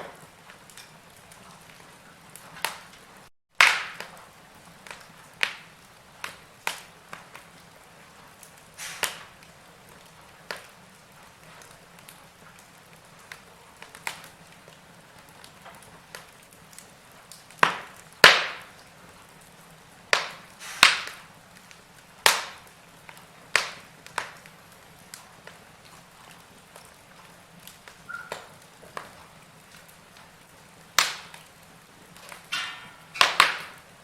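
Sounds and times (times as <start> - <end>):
faint fire hiss: 0.0 - 34.0
logs crackling in fireplace: 0.0 - 34.0.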